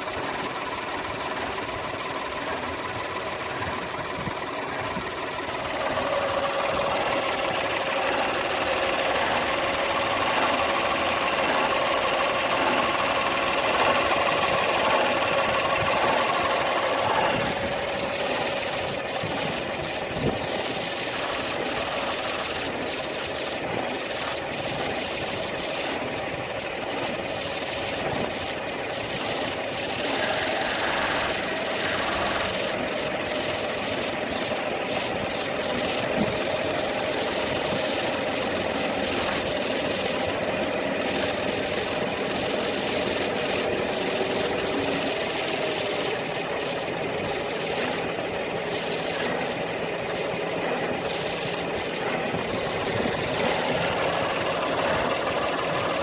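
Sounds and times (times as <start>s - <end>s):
air conditioning compressor noise: 0.0s - 56.0s
car engine running: 0.0s - 56.0s
faint steady whine: 0.0s - 56.0s.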